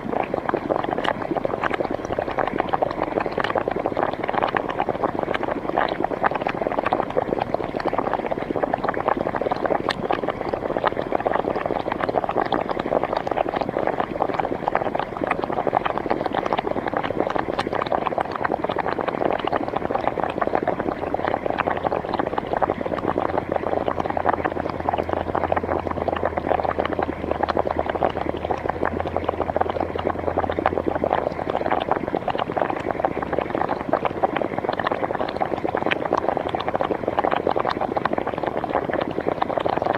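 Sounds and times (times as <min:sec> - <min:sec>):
hot spring water bubbling: 0:00.0 - 0:39.9.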